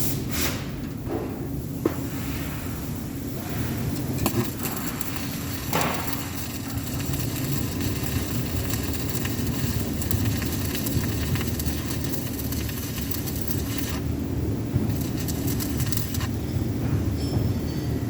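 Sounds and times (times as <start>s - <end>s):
steady low hum: 0.0s - 18.0s
arc welding crackling: 2.5s - 17.2s.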